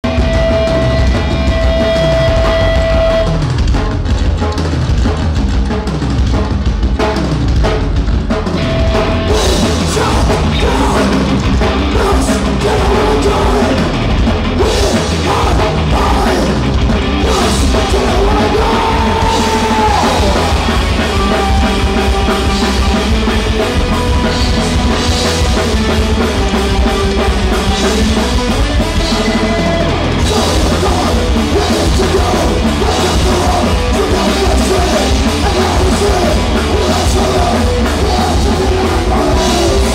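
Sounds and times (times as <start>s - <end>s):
loud live rock band: 0.0s - 39.9s
pounding drum kit: 0.0s - 39.9s.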